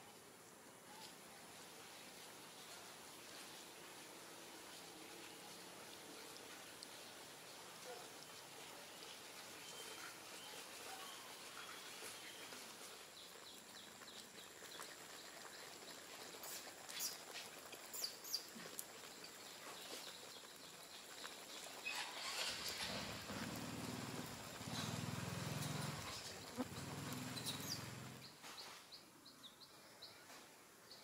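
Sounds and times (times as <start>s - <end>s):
faint outdoor ambience: 0.0s - 31.0s.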